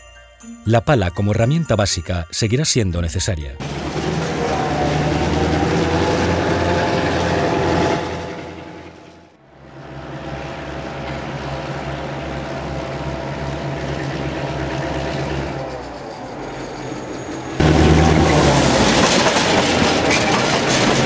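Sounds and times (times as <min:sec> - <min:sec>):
diesel locomotive engine drone: 0:03.6 - 0:21.0.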